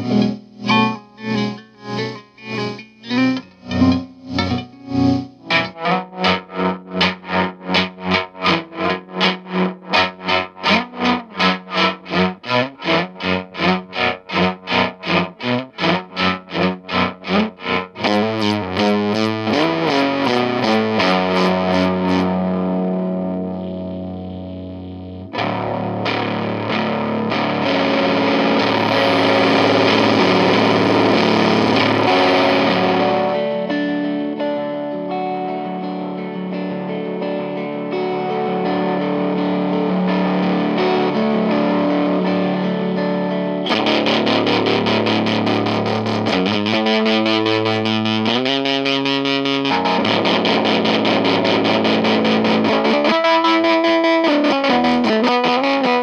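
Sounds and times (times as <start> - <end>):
electric guitar tremolo fuzz: 0.0 - 56.0.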